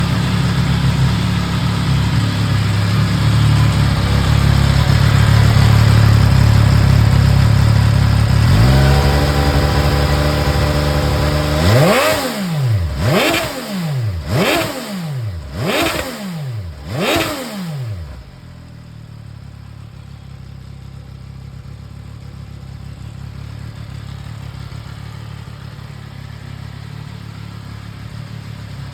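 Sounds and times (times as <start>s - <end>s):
motorcycle engine revving and idling: 0.0s - 28.9s.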